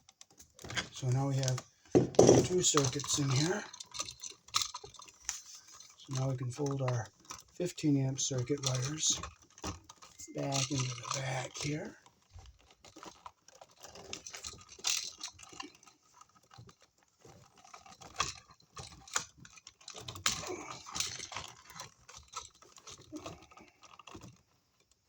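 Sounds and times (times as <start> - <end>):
wires clicking and scraping in a box: 0.0 - 25.0.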